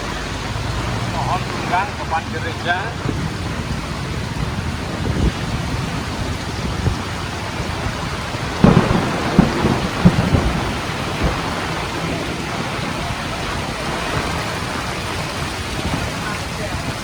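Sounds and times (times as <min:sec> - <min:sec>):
heavy rain in wind: 0:00.0 - 0:17.0
low rumbling thumps: 0:00.0 - 0:17.0.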